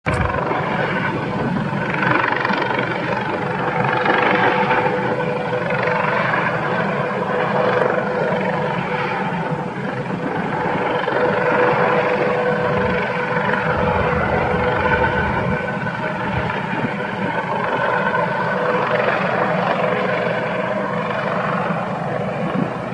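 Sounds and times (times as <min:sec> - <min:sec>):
helicopter rotor chop and whine: 0:00.0 - 0:22.9.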